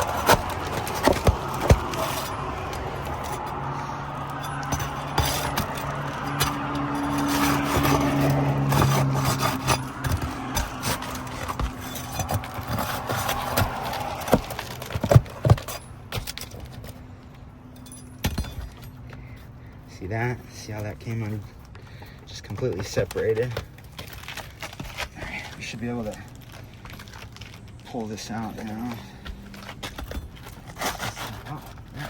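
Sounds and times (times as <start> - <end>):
shingles scraping: 0.0 - 17.2, 20.2 - 32.0.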